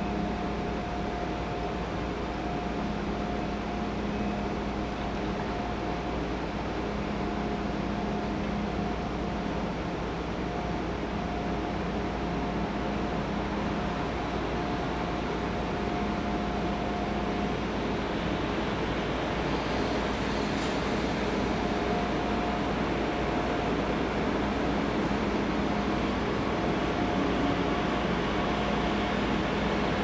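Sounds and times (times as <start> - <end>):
electric train humming and whirring: 0.0 - 30.0.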